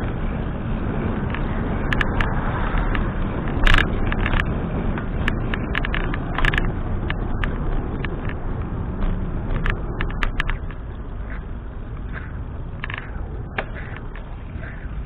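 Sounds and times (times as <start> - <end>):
bike clicks and rattles: 0.0 - 15.0
tyre rumble: 0.0 - 15.0
wind buffeting microphone: 0.0 - 15.0.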